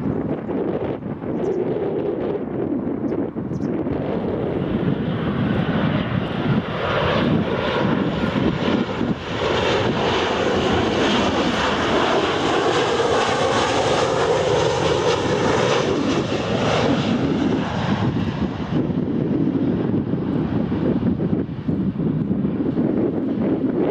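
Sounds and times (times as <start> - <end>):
jet engines passing close by: 0.0 - 23.9.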